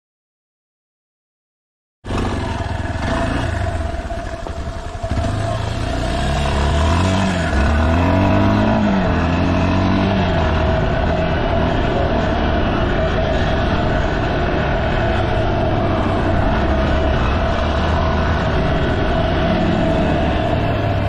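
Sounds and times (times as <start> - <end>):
motorcycle engine revving: 2.0 - 21.0.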